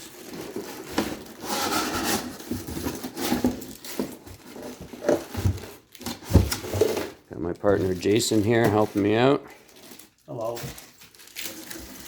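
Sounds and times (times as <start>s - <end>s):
rubbing and scraping of packaging: 0.0s - 12.0s.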